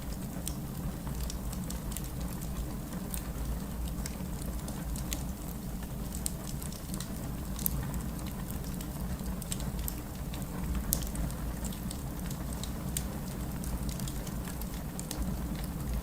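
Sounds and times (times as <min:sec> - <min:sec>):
fireplace crackling and popping: 0:00.0 - 0:16.0.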